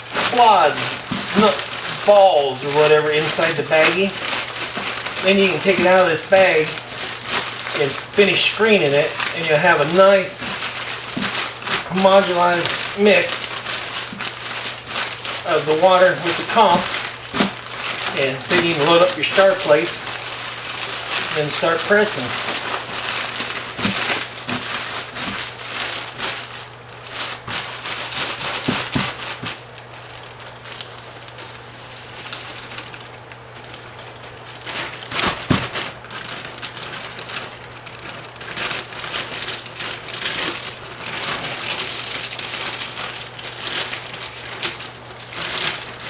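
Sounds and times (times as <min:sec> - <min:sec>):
plastic bag crinkling: 0:00.0 - 0:46.0.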